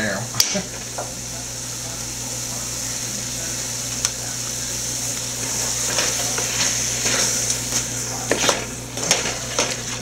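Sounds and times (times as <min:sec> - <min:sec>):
onions sizzling in a pot: 0:00.0 - 0:10.0.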